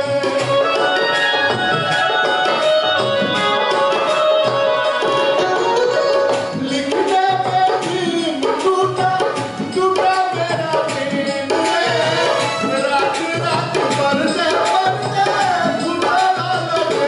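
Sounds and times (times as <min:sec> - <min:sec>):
devotional song: 0:00.0 - 0:17.0
hand drum rhythm: 0:00.0 - 0:17.0.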